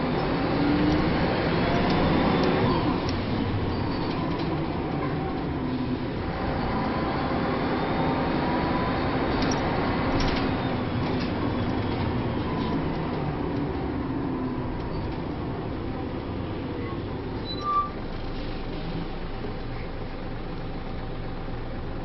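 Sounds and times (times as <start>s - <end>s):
bus body rattling: 0.0s - 21.0s
bus engine and road noise: 0.0s - 22.0s.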